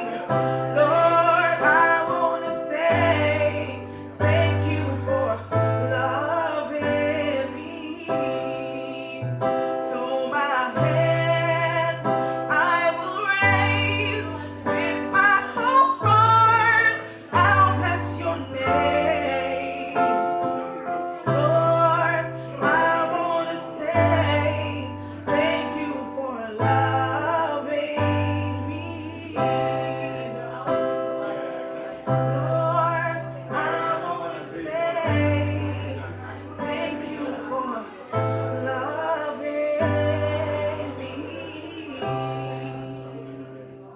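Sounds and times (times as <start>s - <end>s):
woman singing: 0.0s - 30.9s, 32.1s - 43.9s
sustained keyboard chords: 0.0s - 43.9s.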